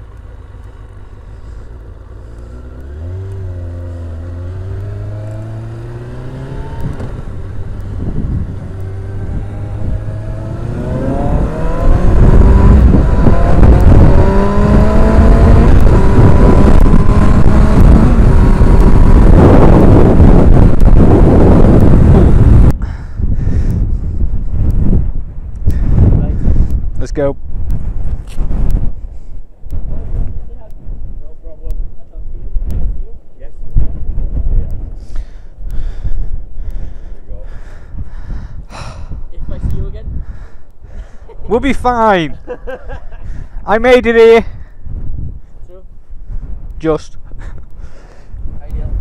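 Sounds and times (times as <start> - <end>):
motorcycle engine accelerating: 0.0 - 33.1, 33.7 - 45.5
wind buffeting microphone: 3.0 - 49.0.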